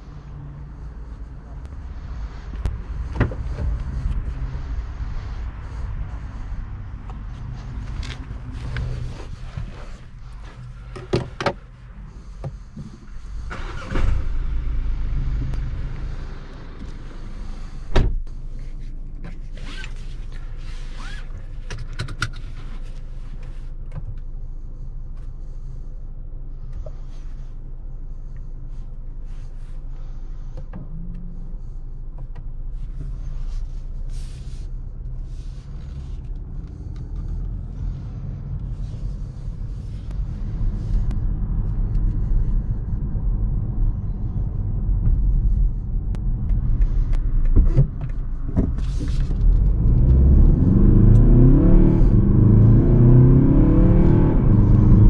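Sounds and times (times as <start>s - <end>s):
diesel engine starting and idling: 0.0s - 18.6s, 24.2s - 55.0s.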